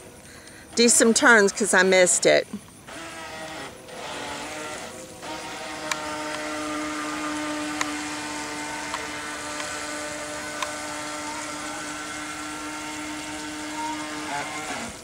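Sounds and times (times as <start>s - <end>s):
toy boat motor whining: 0.0s - 15.0s.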